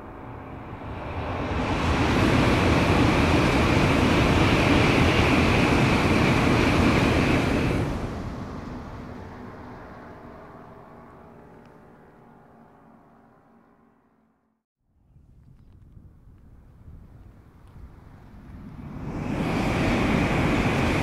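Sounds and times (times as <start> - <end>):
high-speed train passing: 0.0 - 14.2, 17.6 - 21.0.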